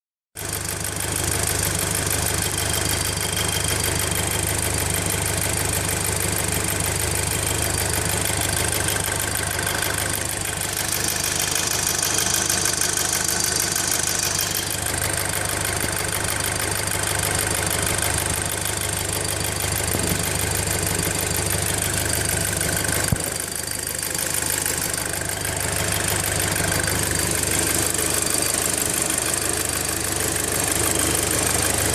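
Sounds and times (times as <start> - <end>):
car engine idling: 0.4 - 31.9.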